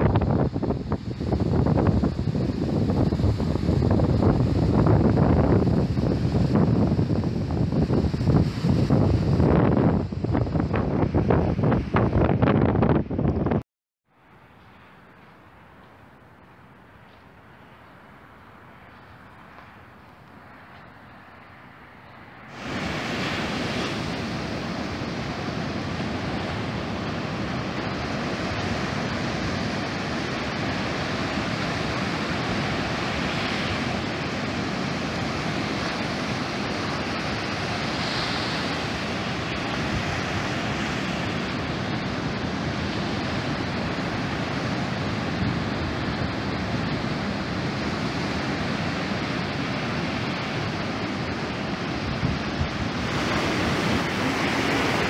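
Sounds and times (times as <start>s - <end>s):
ocean surf breaking on beach: 0.0s - 13.2s, 22.4s - 55.0s.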